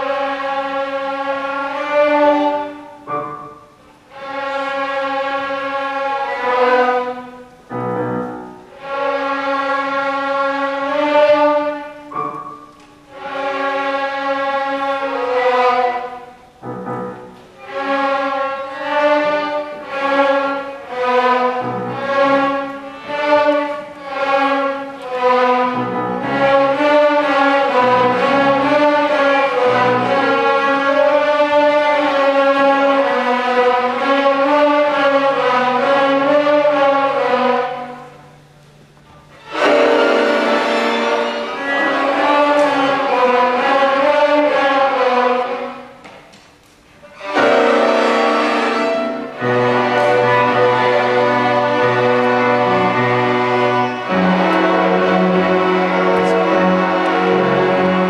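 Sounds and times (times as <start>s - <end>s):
string orchestra playing: 0.0s - 58.0s.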